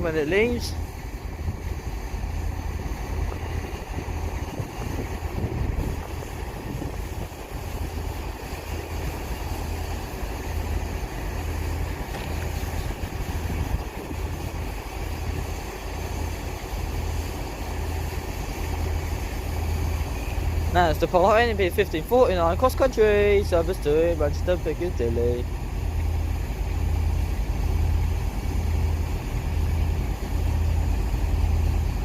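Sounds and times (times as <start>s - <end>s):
diesel train engines idling: 0.0s - 32.0s.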